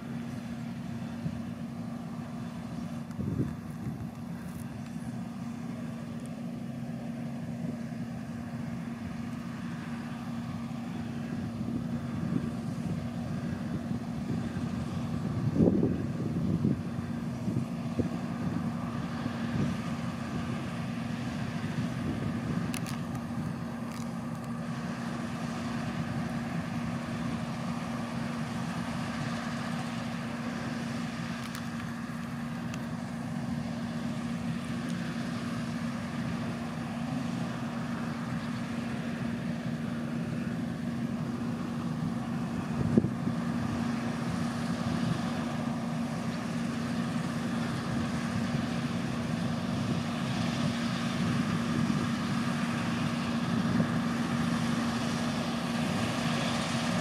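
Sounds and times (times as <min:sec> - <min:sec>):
combine harvester droning: 0:00.0 - 0:57.0
tractor running: 0:00.0 - 0:57.0.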